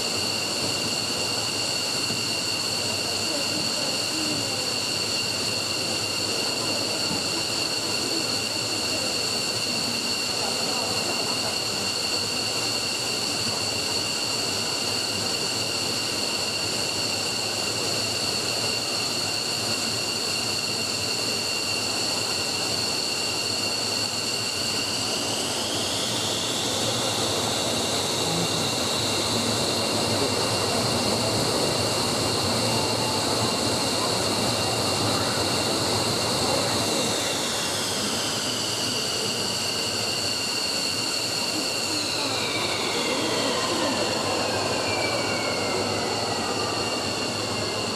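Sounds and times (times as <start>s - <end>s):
jet engines whining and roaring: 0.0s - 47.9s.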